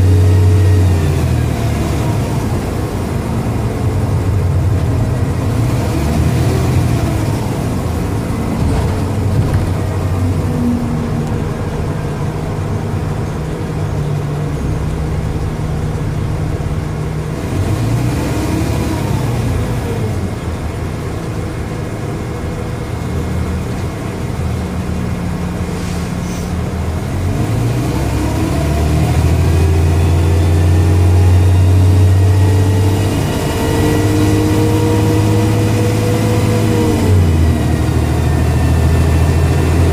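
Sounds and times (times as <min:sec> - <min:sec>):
bus diesel engine accelerating: 0:00.0 - 0:39.9.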